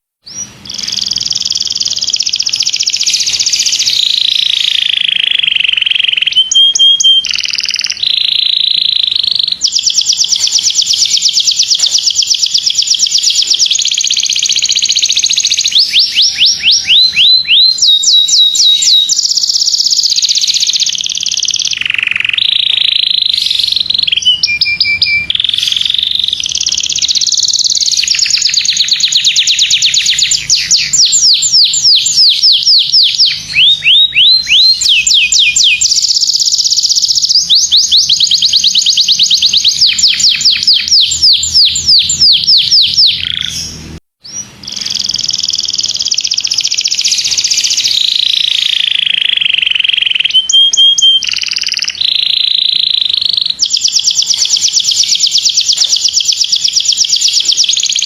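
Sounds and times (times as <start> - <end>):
canary singing trills: 0.2 - 58.0.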